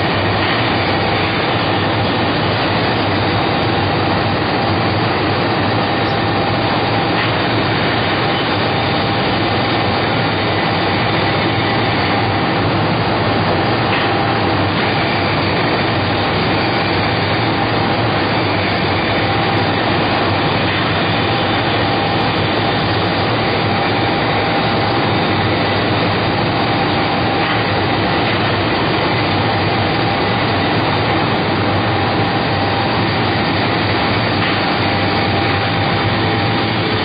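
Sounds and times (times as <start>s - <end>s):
thin machine whine: 0.0s - 37.0s.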